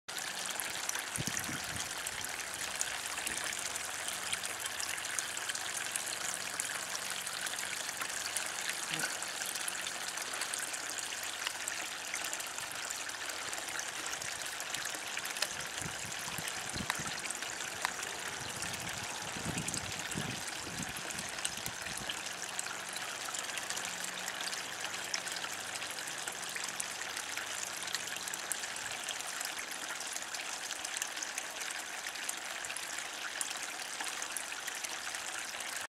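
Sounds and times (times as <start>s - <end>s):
fountain water trickling and splashing: 0.1s - 35.9s.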